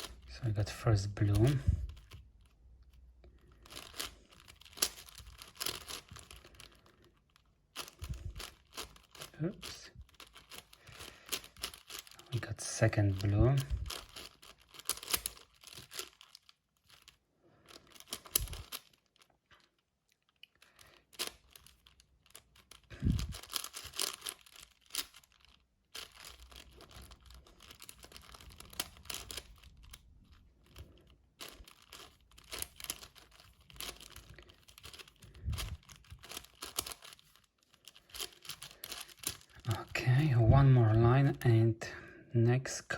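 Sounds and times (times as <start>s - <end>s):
plastic puzzle cube clicking: 1.3s - 12.2s, 13.1s - 19.2s, 20.4s - 39.7s.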